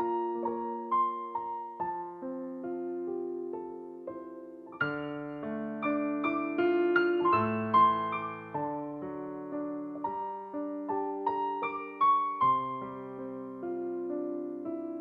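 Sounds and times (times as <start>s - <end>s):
soft solo piano music: 0.0s - 15.0s.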